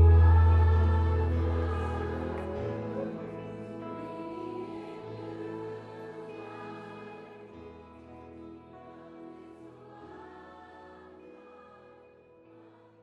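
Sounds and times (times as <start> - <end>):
worship band playing soft chords: 0.0 - 13.0.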